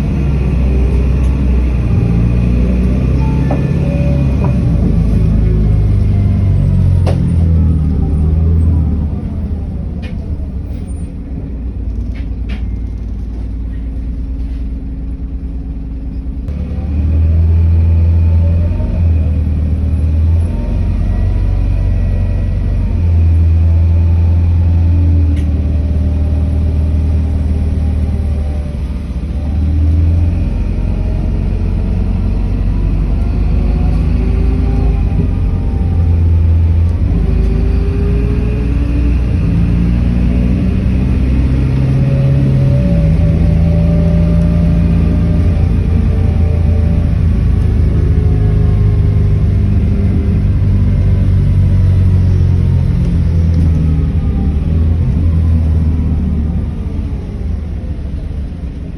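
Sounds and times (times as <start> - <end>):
bus engine rumbling and whining: 0.0 - 58.9.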